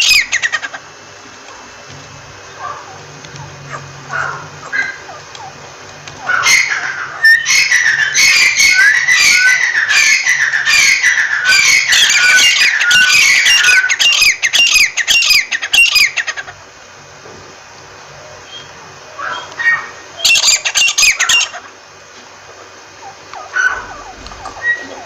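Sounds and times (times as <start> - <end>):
francolin calling: 0.0 - 16.7, 18.0 - 25.0.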